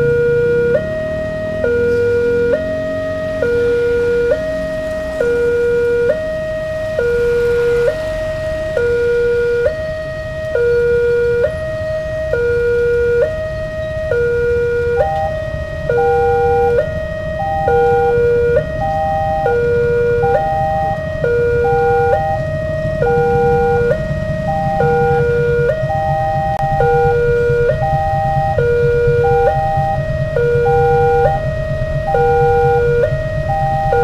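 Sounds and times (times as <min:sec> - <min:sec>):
level crossing warning alarm: 0:00.0 - 0:34.0.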